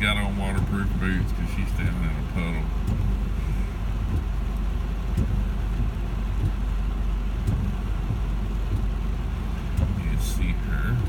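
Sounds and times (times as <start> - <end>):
low rumble inside car: 0.0 - 11.0
rain falling: 0.0 - 11.0.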